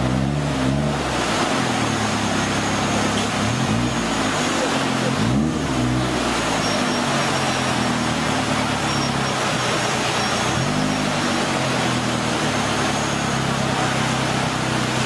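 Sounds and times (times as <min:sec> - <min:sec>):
fast-flowing water rushing: 0:00.0 - 0:15.0
off-road vehicle engine revving: 0:00.0 - 0:15.0.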